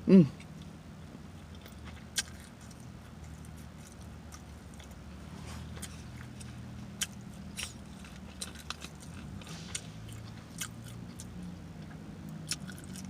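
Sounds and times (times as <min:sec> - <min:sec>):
chewing mouth sounds: 0:01.4 - 0:13.0.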